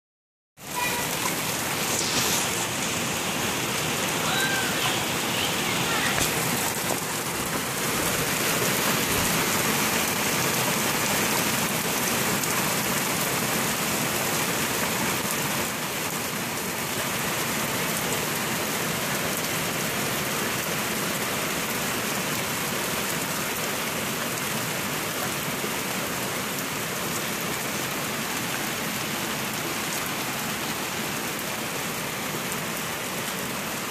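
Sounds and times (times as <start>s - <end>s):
heavy rain falling: 0.6s - 33.9s.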